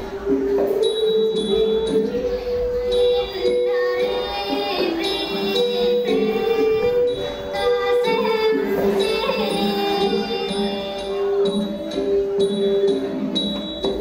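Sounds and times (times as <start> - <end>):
classical dance music: 0.0 - 14.0
light percussion strokes: 0.0 - 14.0.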